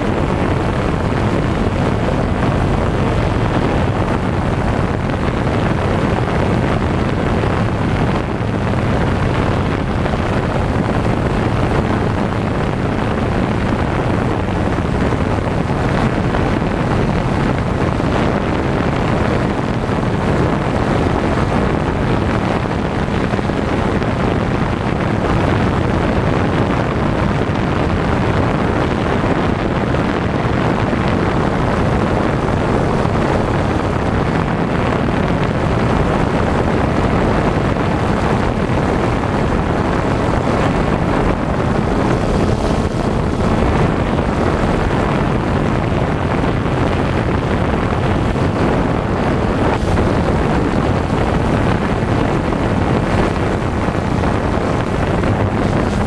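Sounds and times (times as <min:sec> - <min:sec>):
drone motors and propellers: 0:00.0 - 0:56.0.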